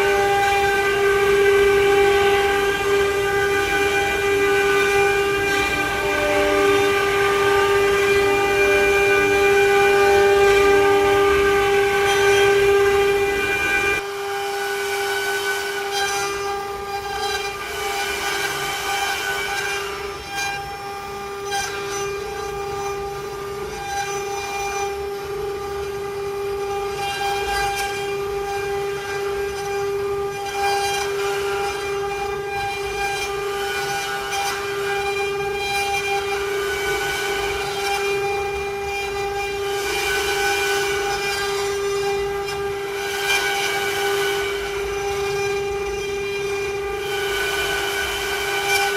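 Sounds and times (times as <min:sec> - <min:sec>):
bit rasping wood: 0:00.0 - 0:48.9
router spindle whine: 0:00.0 - 0:48.9.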